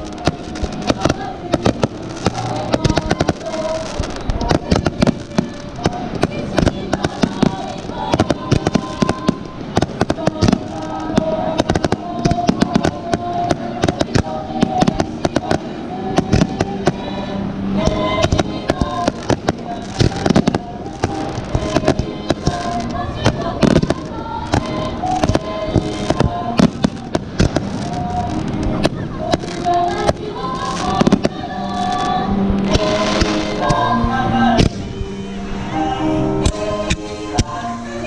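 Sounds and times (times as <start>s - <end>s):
fireworks bangs and crackles: 0.0s - 33.9s, 34.5s - 35.2s
melodic music: 0.0s - 38.0s.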